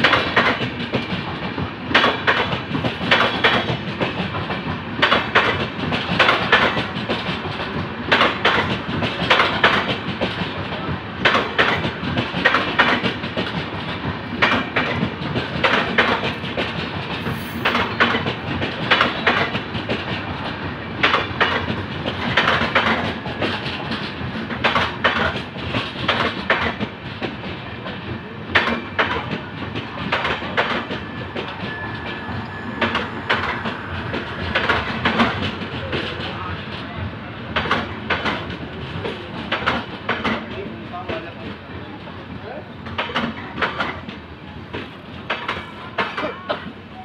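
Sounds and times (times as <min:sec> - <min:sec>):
train wheels clattering: 0:00.0 - 0:41.6, 0:42.8 - 0:46.8
steady train rumble: 0:00.0 - 0:47.0.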